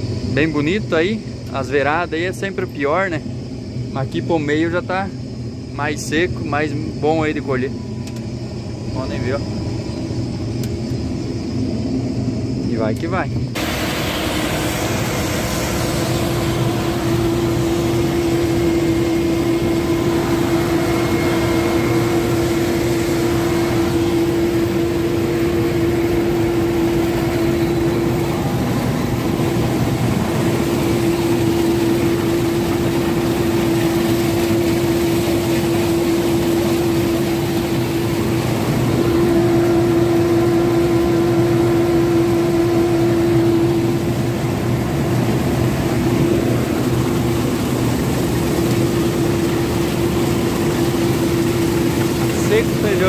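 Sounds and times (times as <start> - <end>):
combine harvester engine humming: 0.0 - 53.0.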